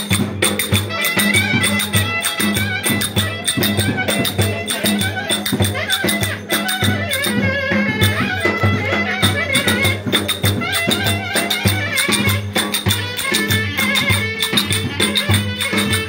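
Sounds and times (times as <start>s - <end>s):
bright percussion strokes: 0.0s - 16.0s
ornamented folk melody: 0.0s - 16.0s
steady drum beat: 0.0s - 16.0s.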